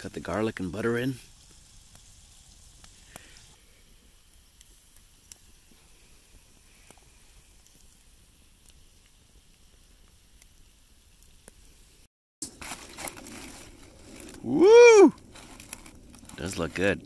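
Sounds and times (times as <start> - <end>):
burning wood crackling: 0.0 - 17.0
food sizzling over campfire: 0.0 - 17.0.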